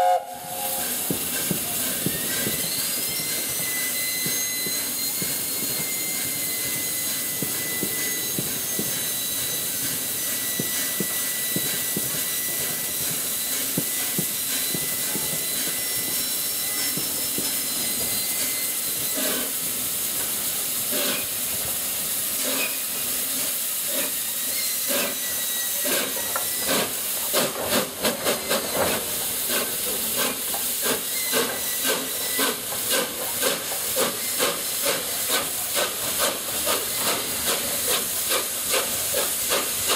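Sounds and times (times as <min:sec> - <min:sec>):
steam hissing: 0:00.0 - 0:39.9
steam locomotive exhaust beats: 0:00.0 - 0:39.9.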